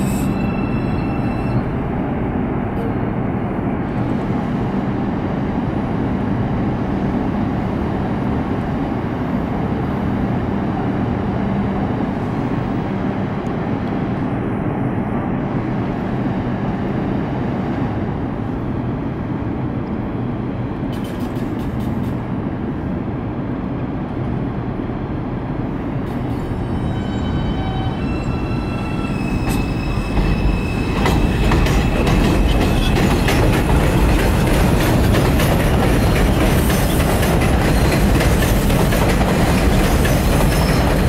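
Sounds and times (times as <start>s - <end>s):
subway train wheels rumbling on rail: 0.0s - 41.0s.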